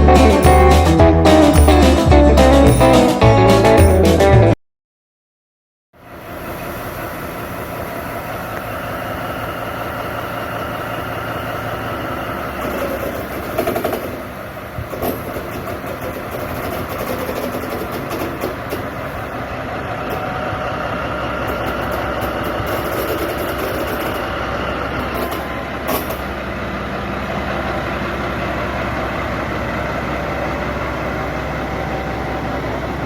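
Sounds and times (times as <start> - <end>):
diesel locomotive engine running: 0.0 - 4.4, 6.0 - 33.0.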